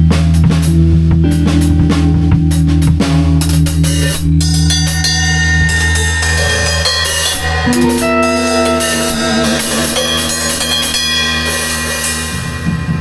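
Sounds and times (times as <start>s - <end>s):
drum kit playing: 0.0s - 13.0s
held low notes: 0.0s - 13.0s
sustained melodic notes: 1.2s - 13.0s.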